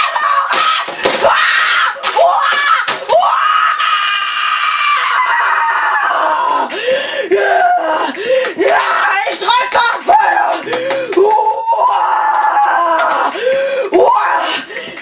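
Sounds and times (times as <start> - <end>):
boy screaming in rage: 0.0 - 6.7, 7.3 - 14.6.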